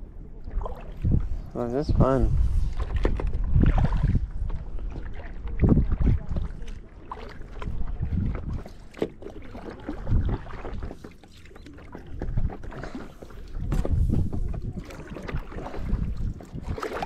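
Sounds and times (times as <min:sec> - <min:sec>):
water splashing against a boat: 0:00.0 - 0:17.0.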